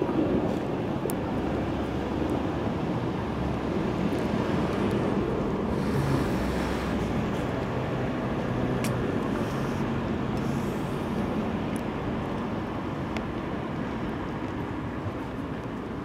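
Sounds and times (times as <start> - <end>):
distant engine rumble: 0.0 - 12.9.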